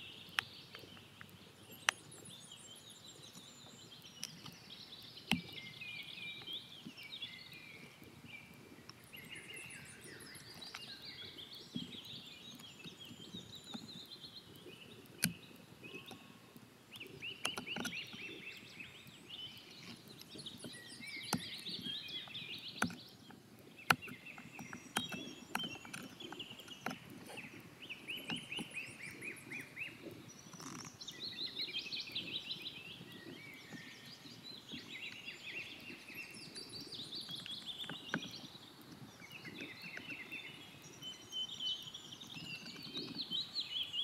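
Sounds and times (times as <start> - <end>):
birds singing and chirping: 0.0 - 44.0.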